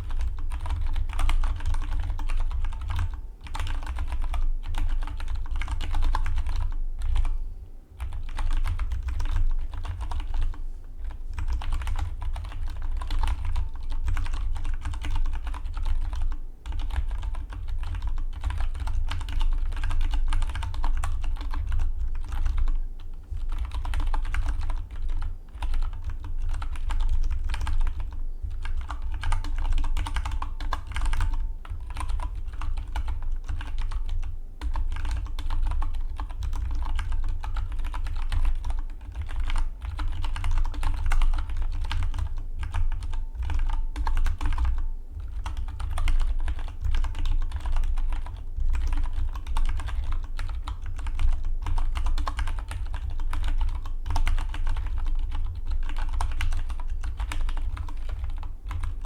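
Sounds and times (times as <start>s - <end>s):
mechanical keyboard typing: 0.0s - 7.3s, 8.0s - 22.8s, 23.4s - 59.0s.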